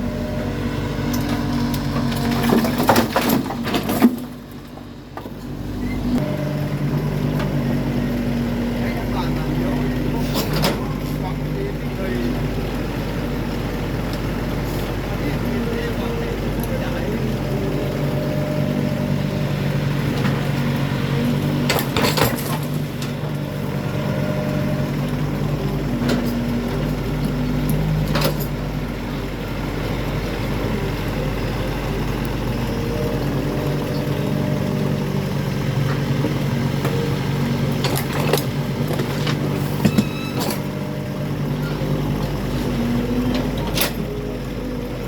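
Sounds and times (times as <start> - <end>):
work machine engine running: 0.0 - 45.0.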